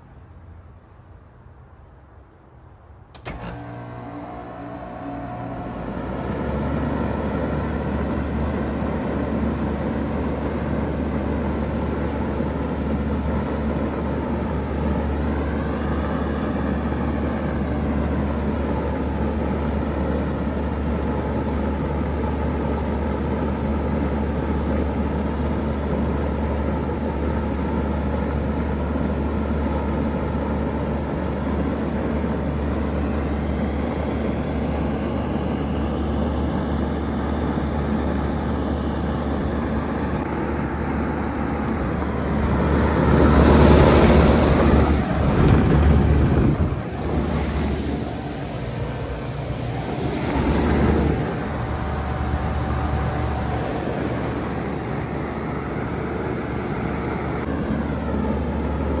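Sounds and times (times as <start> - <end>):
fan rushing: 3.1 - 59.0
heat pump low hum: 3.1 - 59.0.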